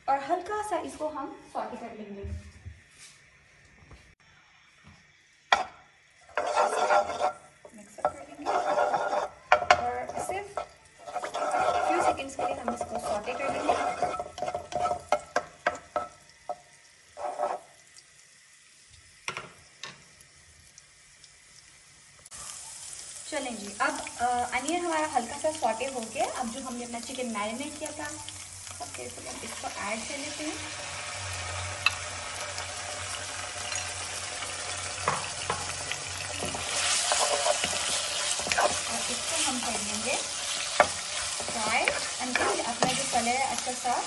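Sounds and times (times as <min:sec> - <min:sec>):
garlic sizzling in hot oil: 0:04.6 - 0:44.0.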